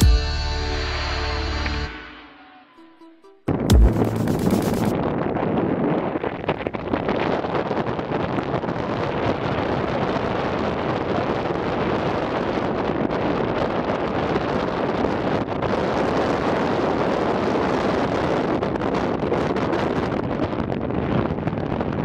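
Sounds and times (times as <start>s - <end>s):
wind and road rush: 3.5s - 22.0s.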